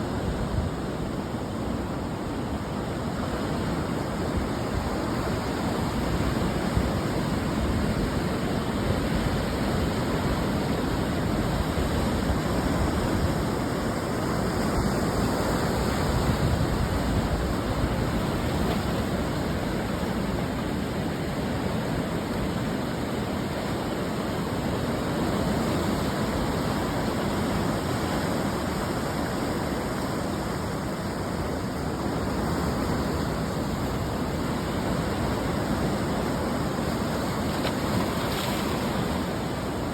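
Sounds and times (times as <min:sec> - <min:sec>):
ocean surf breaking on shore: 0:00.0 - 0:39.9.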